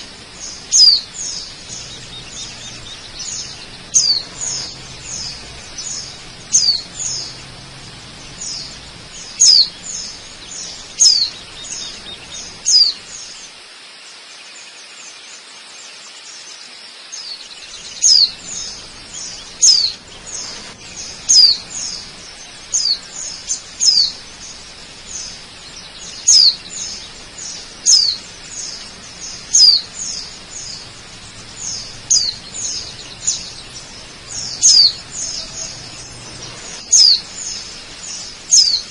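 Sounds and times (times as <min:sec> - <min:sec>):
bird chirping: 0:00.0 - 0:38.9
falling water rushing: 0:00.0 - 0:38.9.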